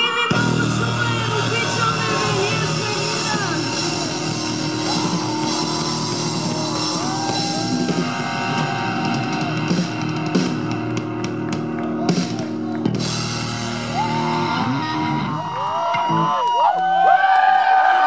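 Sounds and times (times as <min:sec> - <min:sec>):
rock band playing: 0:00.0 - 0:16.3.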